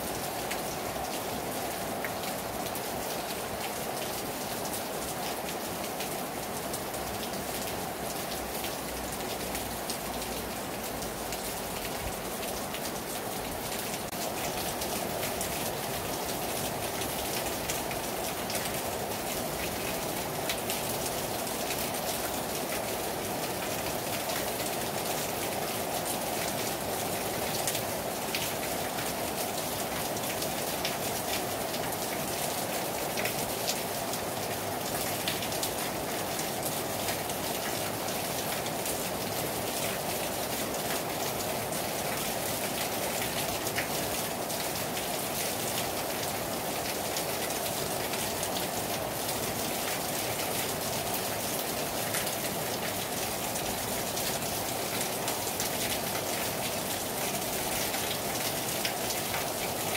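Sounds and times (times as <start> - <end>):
heavy rain on a terrace: 0.0 - 59.9.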